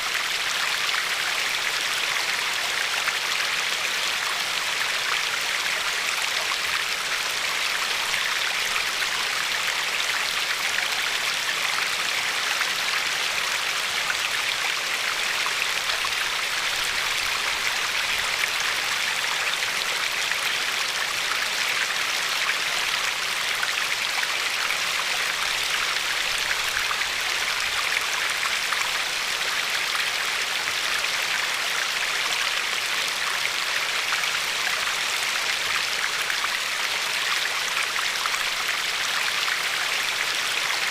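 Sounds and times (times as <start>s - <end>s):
river water flowing over pebbles: 0.0s - 40.9s.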